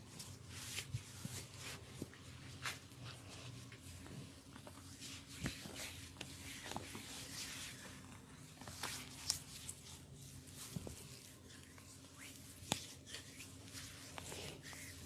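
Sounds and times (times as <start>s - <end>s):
hands rustling over skin and hair: 0.1s - 15.0s.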